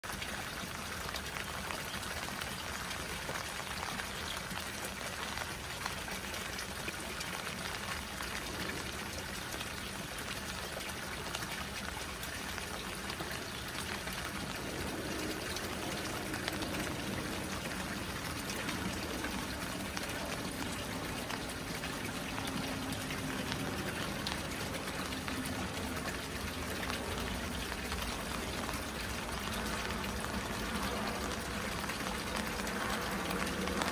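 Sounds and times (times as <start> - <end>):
rain pattering on pond: 0.0 - 33.9
water pouring from pipe: 0.0 - 33.9.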